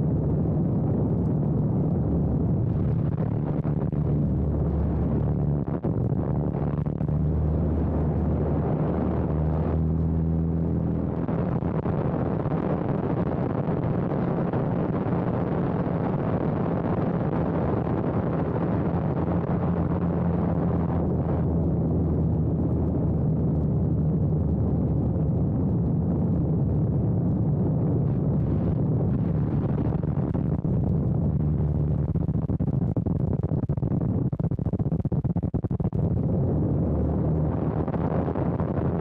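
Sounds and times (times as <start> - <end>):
wind rushing over airframe: 0.0 - 33.1.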